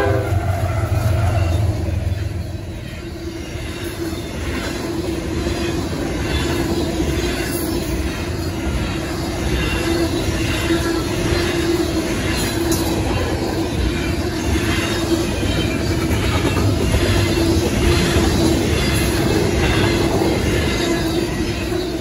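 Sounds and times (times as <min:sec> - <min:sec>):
steel wheels rumbling on rail: 0:00.0 - 0:22.0
wheels clicking over rail joints: 0:03.4 - 0:22.0.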